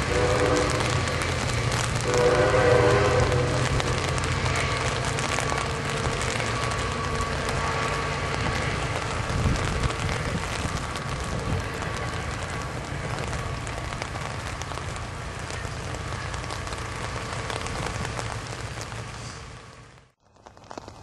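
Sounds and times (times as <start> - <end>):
commuter train rumbling: 0.0 - 21.0
rain hissing: 0.0 - 21.0.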